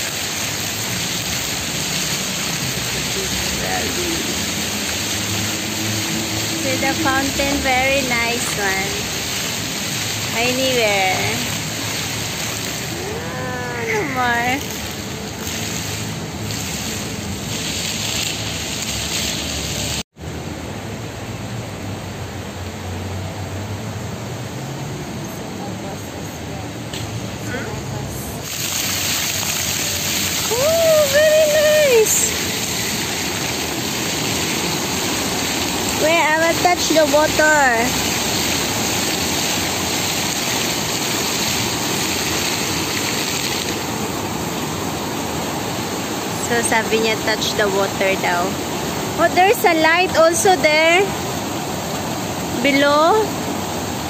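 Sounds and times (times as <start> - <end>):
fountain water splashing on stone: 0.0 - 54.0.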